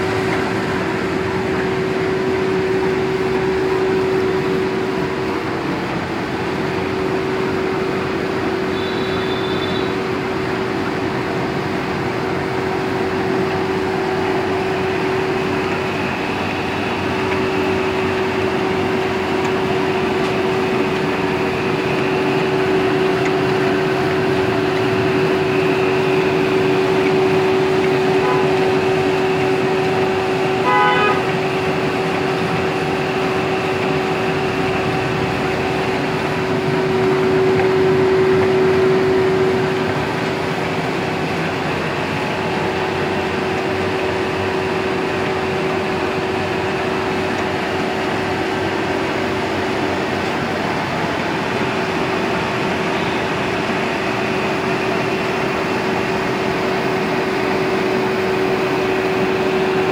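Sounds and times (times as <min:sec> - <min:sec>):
printing press drone: 0:00.0 - 0:59.9.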